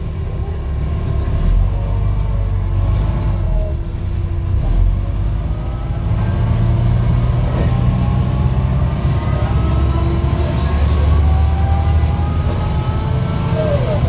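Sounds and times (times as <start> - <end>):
bus diesel engine: 0.0 - 14.0.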